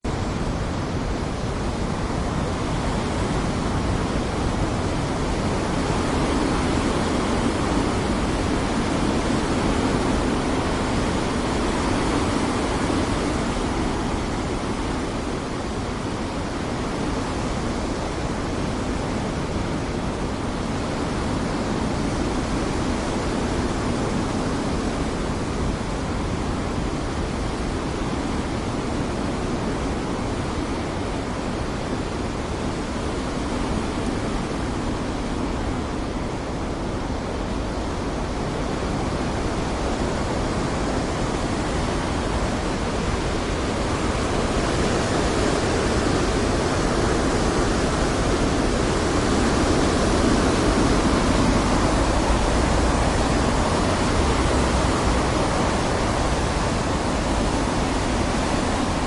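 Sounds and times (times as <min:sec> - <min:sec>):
storm wind blowing: 0:00.0 - 0:59.0.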